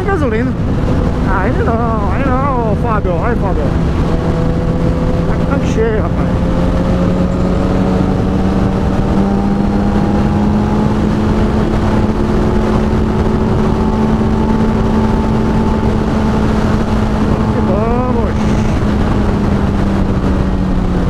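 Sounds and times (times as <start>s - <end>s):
motorcycle engine cruising: 0.0s - 21.0s
wind rush: 0.0s - 21.0s.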